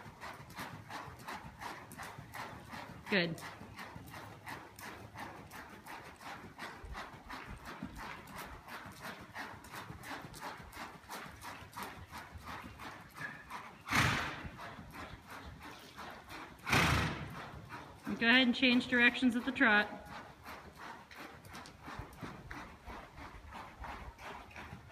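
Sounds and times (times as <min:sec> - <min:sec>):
horse hoofbeats on dirt: 0:00.0 - 0:24.9.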